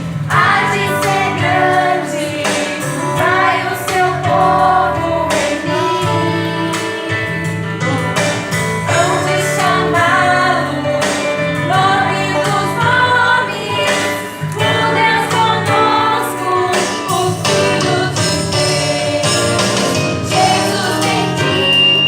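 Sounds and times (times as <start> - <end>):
instrumental accompaniment: 0.0 - 22.0
choir singing: 0.3 - 22.0.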